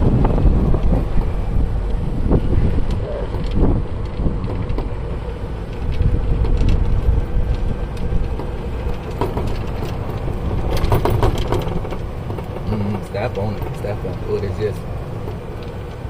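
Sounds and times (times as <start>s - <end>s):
light rattles and clicks: 0.0s - 16.0s
wind and road noise: 0.0s - 16.0s.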